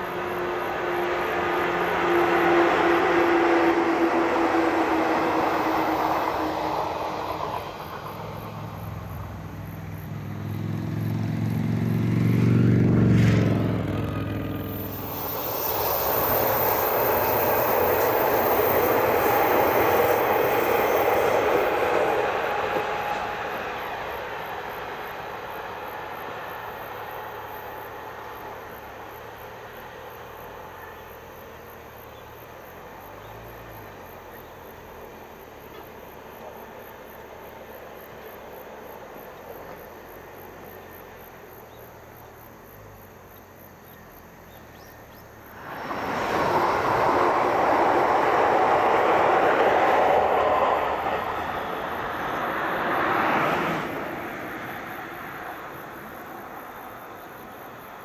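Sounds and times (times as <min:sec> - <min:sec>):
diesel railcar engine hum: 0:00.0 - 0:58.0
electric train passing by: 0:00.0 - 0:58.0.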